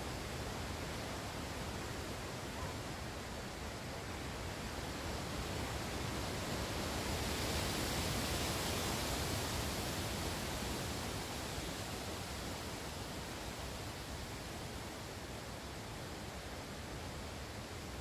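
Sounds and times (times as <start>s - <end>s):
wind rustling leaves: 0.0s - 18.0s.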